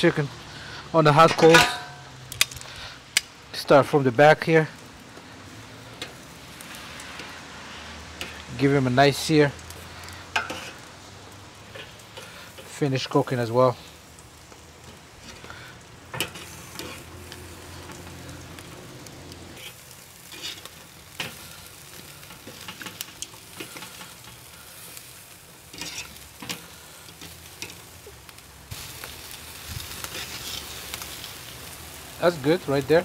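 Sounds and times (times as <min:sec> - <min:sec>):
chicken sizzling on grill: 0:00.0 - 0:33.0.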